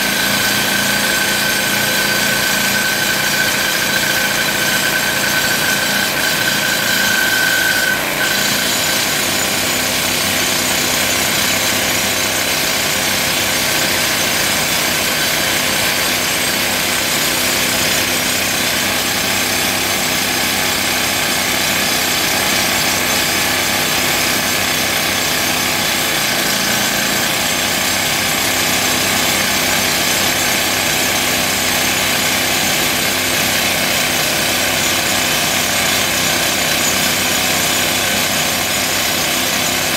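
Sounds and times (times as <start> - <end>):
rock drill hammering: 0.0 - 39.9.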